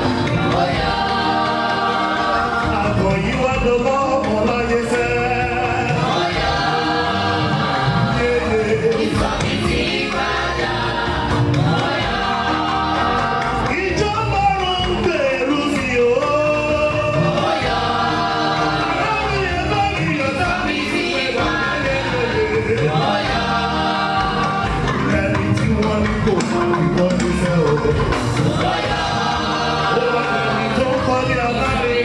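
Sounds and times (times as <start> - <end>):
gospel choir singing: 0.0 - 32.0.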